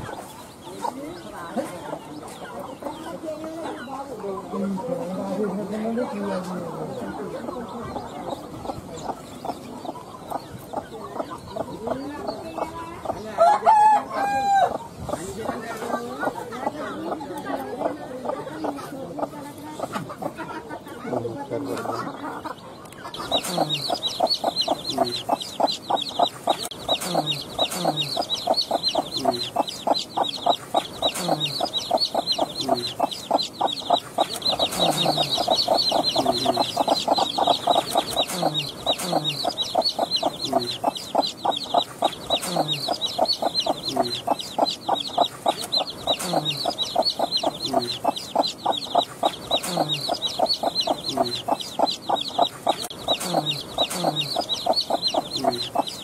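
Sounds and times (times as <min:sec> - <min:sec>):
chicks peeping: 0:00.0 - 0:56.0
hen clucking: 0:00.0 - 0:56.0.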